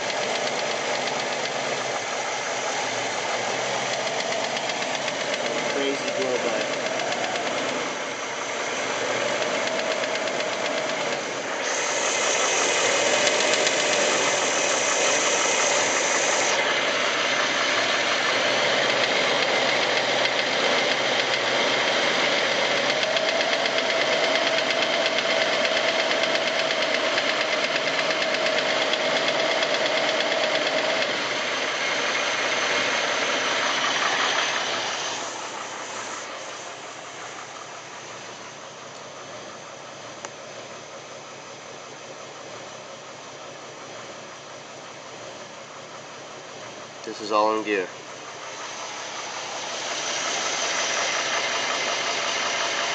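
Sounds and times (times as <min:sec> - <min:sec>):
rhythmic engine knock: 0:00.0 - 0:38.6, 0:45.3 - 0:52.9
car engine running: 0:00.0 - 0:52.9.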